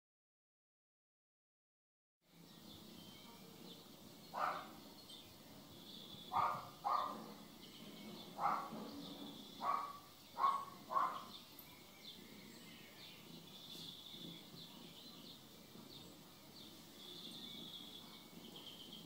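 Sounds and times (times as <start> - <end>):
faint bird chirping: 2.3 - 19.0.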